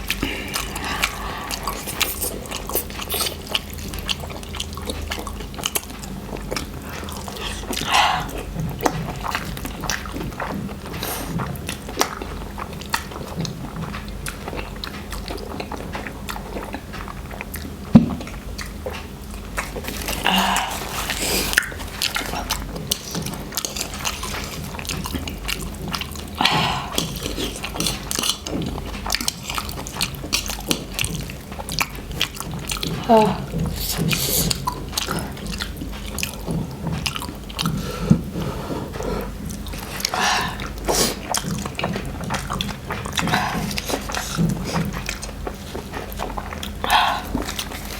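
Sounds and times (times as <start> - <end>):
noodle slurps: 0.0 - 4.2, 4.9 - 13.3, 19.5 - 47.9
chewing and wet mouth clicks: 0.0 - 47.9
steady low hum: 0.0 - 47.9.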